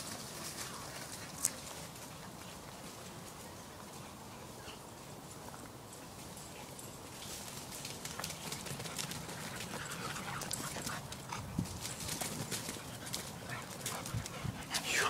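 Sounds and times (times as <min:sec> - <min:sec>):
dog paws running through dry leaves: 0:00.0 - 0:04.1, 0:05.9 - 0:14.3.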